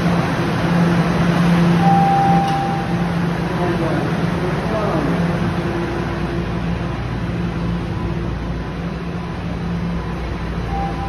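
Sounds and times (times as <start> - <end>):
subway car hum and hiss: 0.0 - 11.0.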